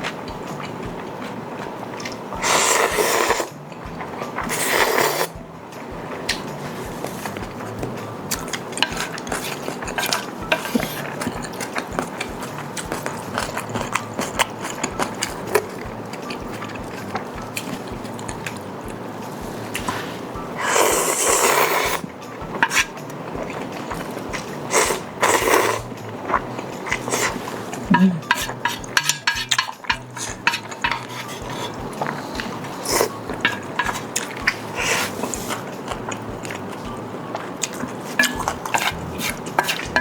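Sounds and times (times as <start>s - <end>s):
chewing: 0.0s - 40.0s
utensils tapping a bowl: 0.0s - 40.0s
loud slurps: 2.0s - 3.6s, 4.3s - 5.4s, 6.4s - 36.8s.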